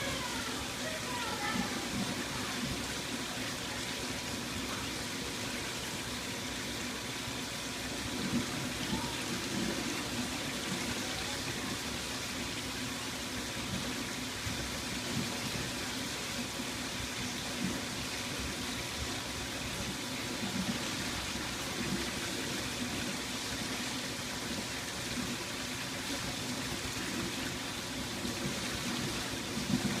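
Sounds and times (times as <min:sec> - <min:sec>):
water gurgling and bubbling: 0:00.0 - 0:30.0.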